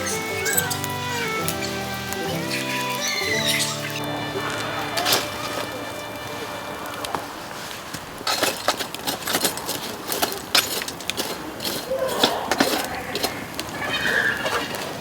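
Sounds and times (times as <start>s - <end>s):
bamboo fire crackling and popping: 0.0s - 15.0s.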